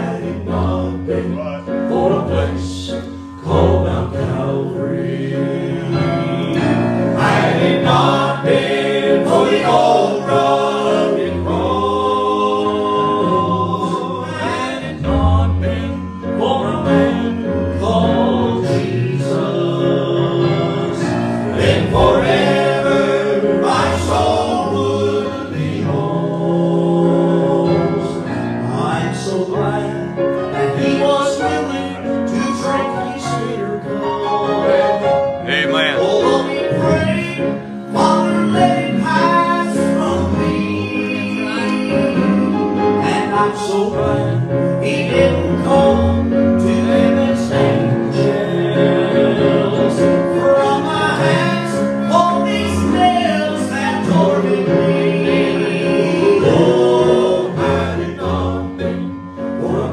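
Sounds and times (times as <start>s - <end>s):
instrumental accompaniment: 0.0s - 59.9s
male vocal group singing in harmony: 0.0s - 59.9s.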